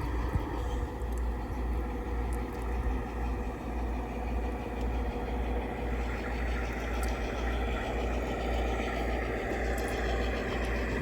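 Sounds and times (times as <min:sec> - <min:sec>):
model locomotive humming: 0:00.0 - 0:11.0.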